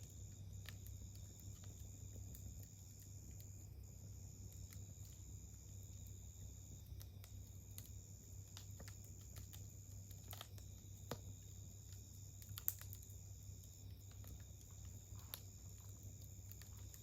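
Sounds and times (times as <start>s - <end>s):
campfire wood crackling: 0.0s - 17.0s
steady low hum: 0.0s - 17.0s.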